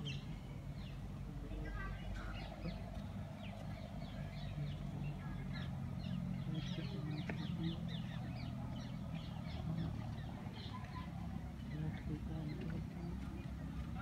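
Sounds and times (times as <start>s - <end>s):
birds chirping: 0.0s - 14.0s
low steady hum: 0.0s - 14.0s.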